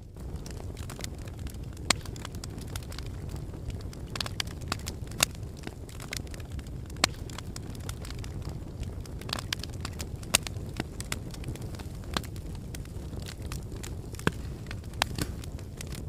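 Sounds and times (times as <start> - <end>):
fire crackling and popping: 0.0 - 16.0
low rush of flames: 0.0 - 16.0.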